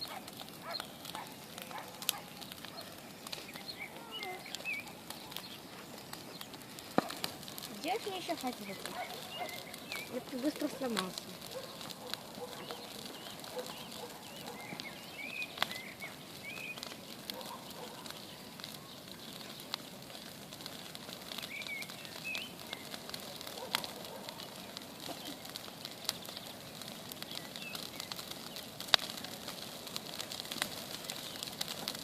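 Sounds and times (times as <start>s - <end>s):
birds chirping: 0.0s - 31.8s
campfire crackling and popping: 0.0s - 32.0s.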